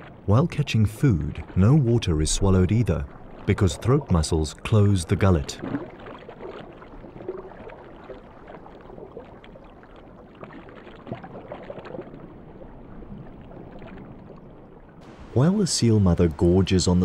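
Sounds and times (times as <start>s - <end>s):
underwater swishing and gurgling: 0.0s - 17.0s.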